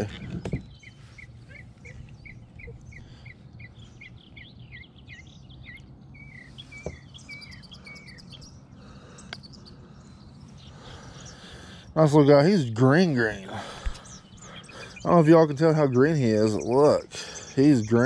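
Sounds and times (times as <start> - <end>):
songbird singing whistled notes: 0.0 - 8.6, 9.2 - 18.0.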